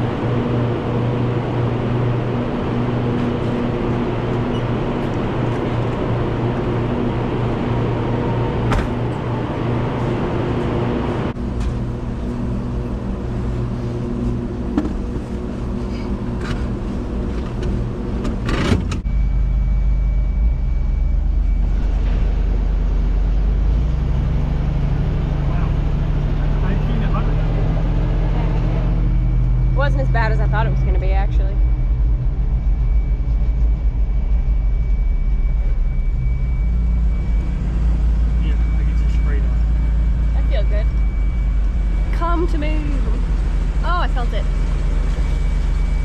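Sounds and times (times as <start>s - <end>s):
deep heavy rumble: 0.0s - 46.0s
vehicle engine running: 0.0s - 46.0s.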